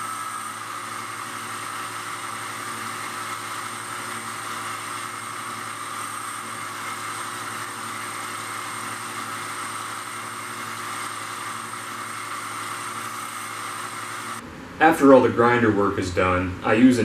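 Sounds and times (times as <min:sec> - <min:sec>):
grinder running: 0:00.0 - 0:14.5.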